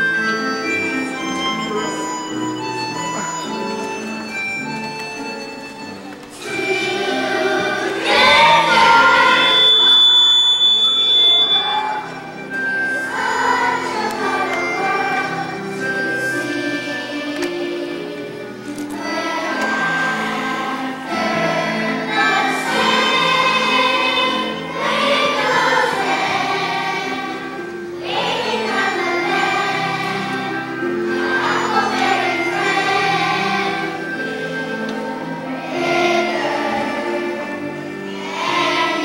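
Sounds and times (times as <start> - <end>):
children's choir singing: 0.0 - 39.0.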